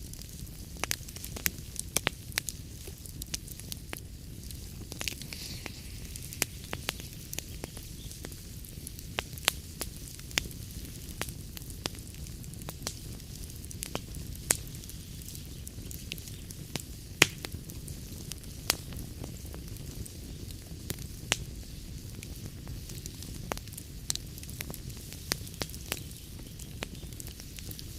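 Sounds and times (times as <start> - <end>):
fire crackles and pops: 0.0 - 27.9
fire rumble and hiss: 0.0 - 27.9.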